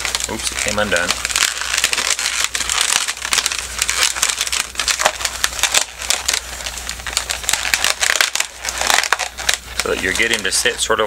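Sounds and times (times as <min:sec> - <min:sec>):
balloons squeaking while twisted: 0:00.0 - 0:10.8.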